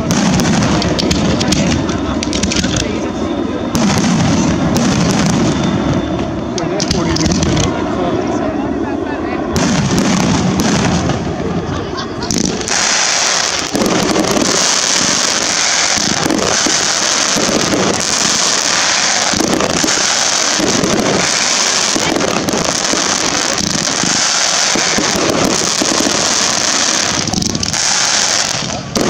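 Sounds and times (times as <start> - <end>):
fireworks crackling and fizzing: 0.0 - 7.9, 9.6 - 29.0
dull firework bursts: 0.0 - 8.3, 9.5 - 29.0.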